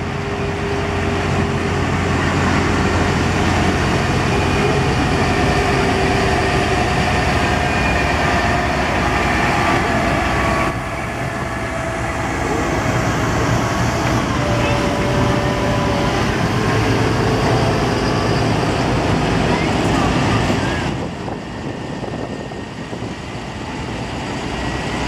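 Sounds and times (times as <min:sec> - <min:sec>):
tractor engine drone: 0:00.0 - 0:25.0.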